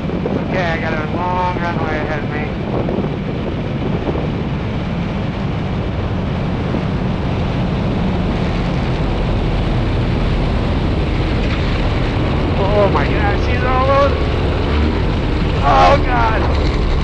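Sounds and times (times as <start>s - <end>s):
light aircraft engine and propeller: 0.0s - 17.0s
wind rush on microphone: 0.0s - 17.0s.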